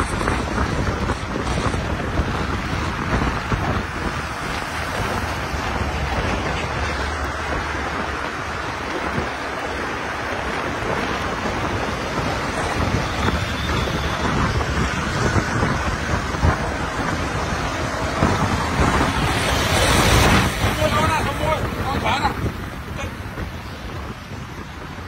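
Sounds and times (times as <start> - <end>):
motor traffic passing: 0.0 - 25.0
wind on microphone: 0.0 - 25.0.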